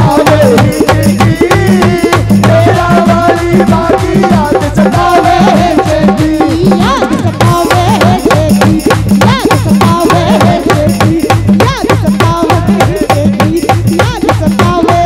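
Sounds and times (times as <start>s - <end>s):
fast hand-drum beat: 0.0s - 15.0s.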